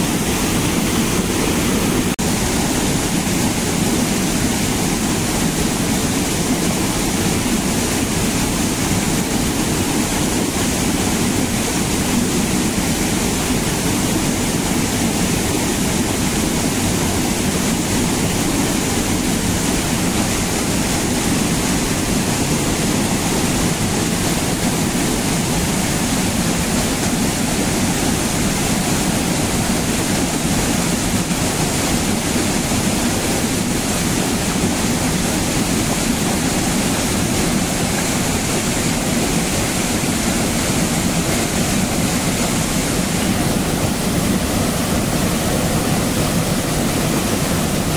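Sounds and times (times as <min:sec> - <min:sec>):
waterfall rushing into pool: 0:00.0 - 0:47.9.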